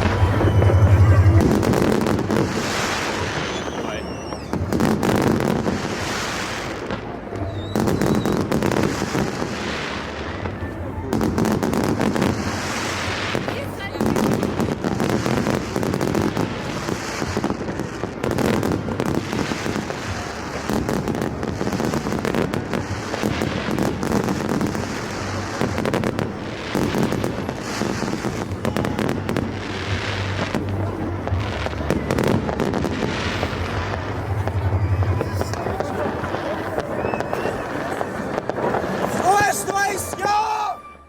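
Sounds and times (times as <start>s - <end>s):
fireworks cracking and banging: 0.0s - 40.8s.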